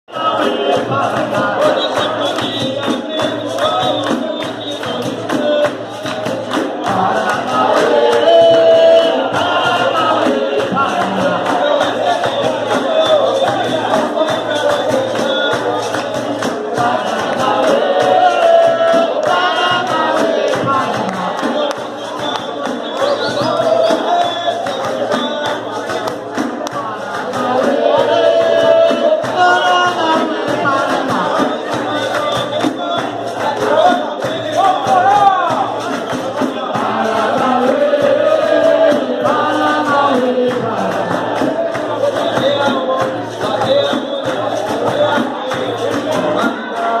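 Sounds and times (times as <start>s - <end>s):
group of voices singing: 0.0s - 47.0s
hand percussion with jingles: 0.2s - 47.0s.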